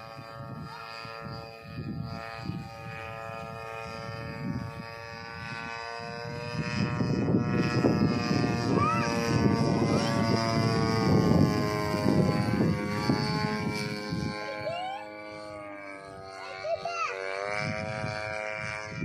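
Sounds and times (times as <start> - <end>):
model plane engine buzzing: 0.0 - 19.0.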